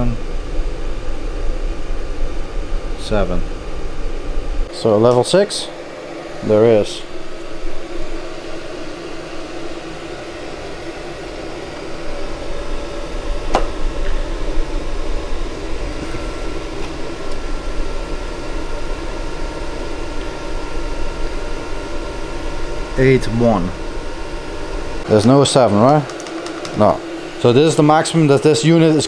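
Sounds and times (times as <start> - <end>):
heater fan and burner whirring: 0.0 - 29.0.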